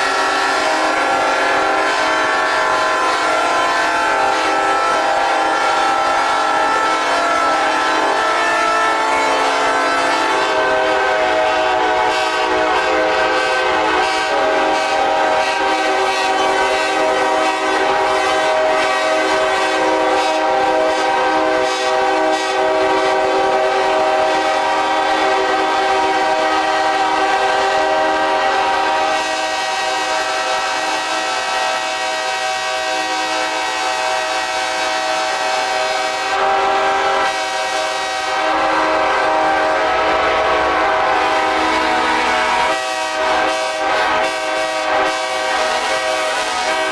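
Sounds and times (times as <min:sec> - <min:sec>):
locomotive air horns chord: 0:00.0 - 0:46.9.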